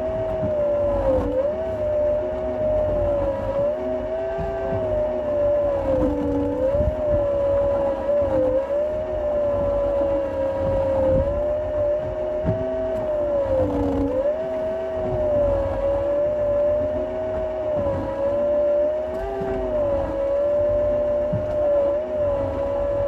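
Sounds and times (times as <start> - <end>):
low rumble: 0.0 - 23.0
motor engine droning: 0.0 - 23.0.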